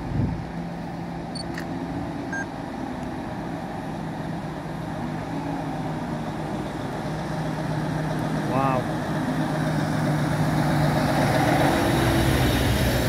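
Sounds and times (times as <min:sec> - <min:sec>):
lorry diesel engine hum: 0:00.0 - 0:13.0.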